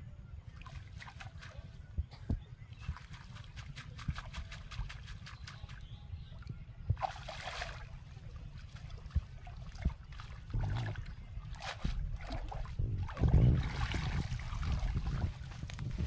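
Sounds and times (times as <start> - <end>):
water sloshing and trickling: 0.4 - 16.0
short water splashes: 0.5 - 5.9, 6.9 - 16.0.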